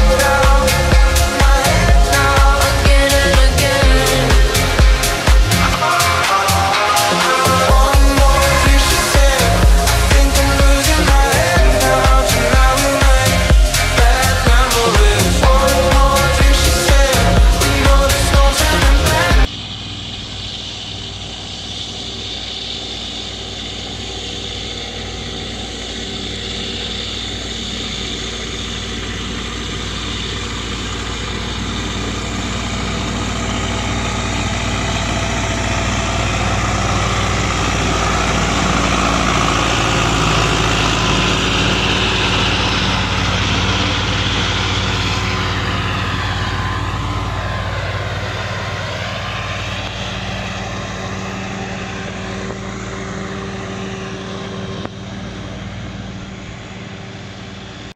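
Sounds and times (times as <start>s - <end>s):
tractor diesel engine: 0.0s - 57.9s.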